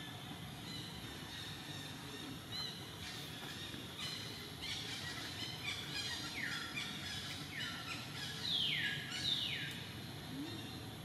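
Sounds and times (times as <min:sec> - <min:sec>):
steady outdoor hum: 0:00.0 - 0:11.0.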